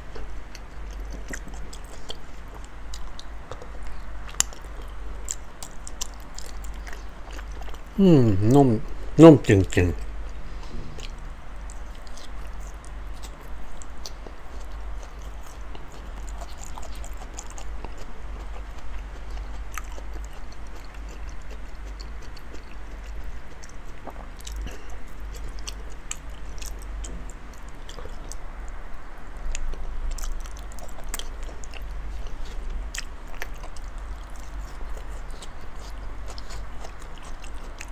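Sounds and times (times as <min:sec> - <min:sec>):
wet chewing: 0:00.1 - 0:08.0, 0:11.0 - 0:28.4, 0:29.5 - 0:37.9.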